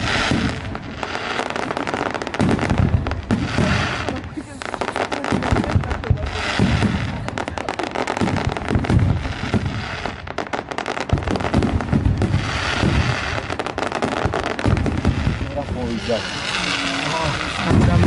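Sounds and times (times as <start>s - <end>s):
deep fireworks bangs: 0.0s - 18.0s
fireworks crackling: 0.0s - 18.0s.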